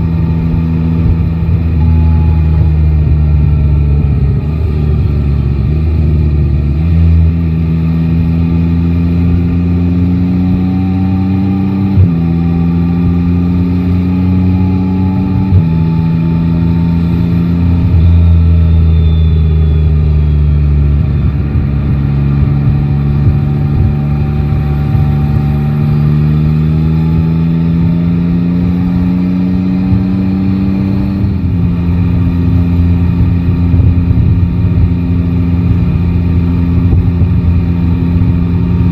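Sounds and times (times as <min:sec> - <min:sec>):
motorcycle engine changing gears: 0:00.0 - 0:38.9
wind and road noise: 0:00.0 - 0:38.9.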